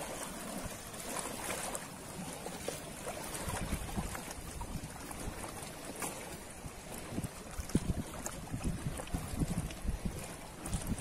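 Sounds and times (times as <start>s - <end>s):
ocean waves on shore: 0.0s - 11.0s.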